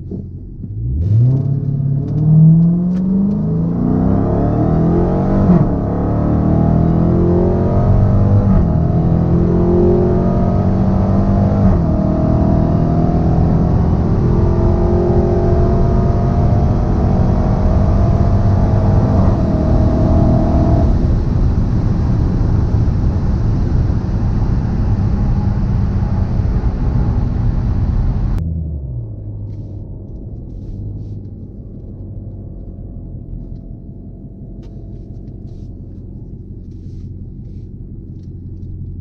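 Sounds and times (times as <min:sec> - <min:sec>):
car engine at full throttle: 0:00.0 - 0:39.0
wind and road noise: 0:00.0 - 0:39.0.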